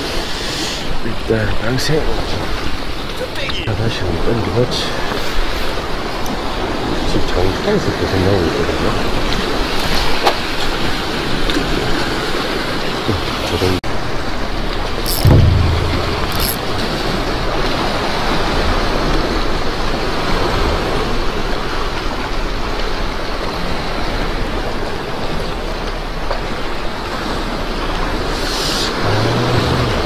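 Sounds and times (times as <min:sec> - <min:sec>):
sea surf on rocks: 0:00.0 - 0:30.0.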